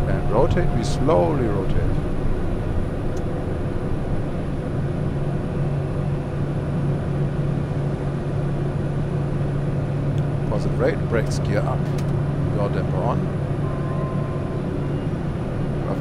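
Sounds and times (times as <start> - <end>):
turboprop engine drone: 0.0 - 16.0.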